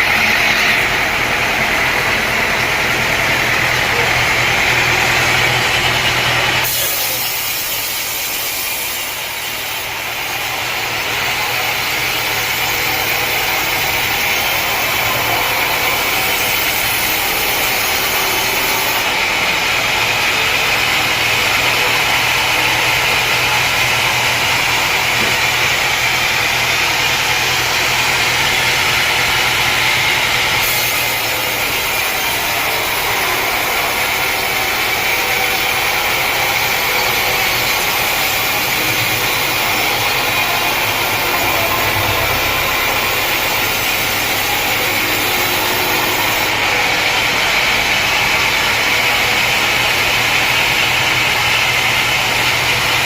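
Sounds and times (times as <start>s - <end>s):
engine drone: 0.0s - 53.0s
saw whining: 0.0s - 53.0s.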